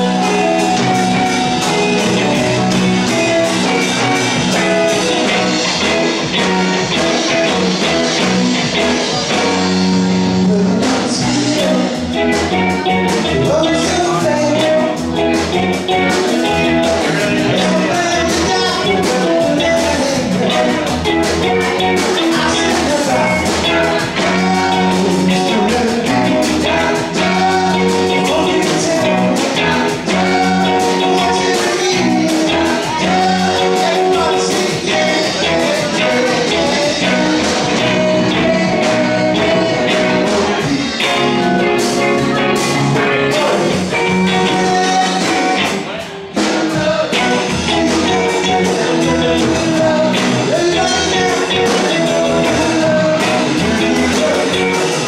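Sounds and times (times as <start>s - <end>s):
drum kit: 0.0s - 55.0s
electric guitars: 0.0s - 55.0s
man singing: 0.0s - 55.0s.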